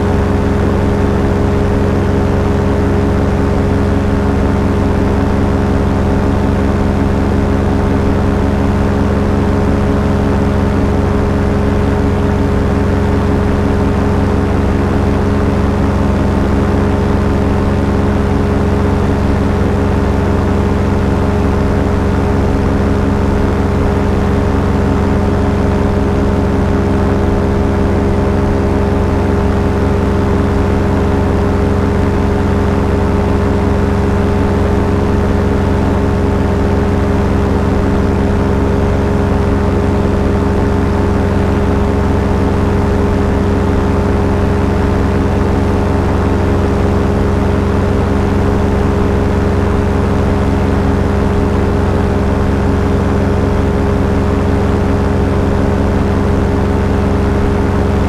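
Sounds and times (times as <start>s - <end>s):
small aircraft engine running: 0.0s - 58.0s.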